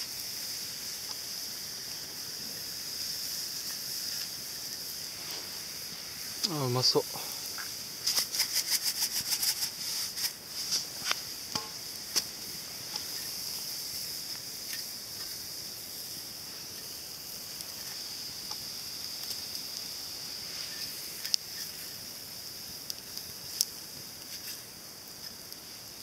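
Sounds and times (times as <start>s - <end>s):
crackles and pops: 0.0s - 26.0s
mushrooms sizzling in a skillet: 0.0s - 26.0s.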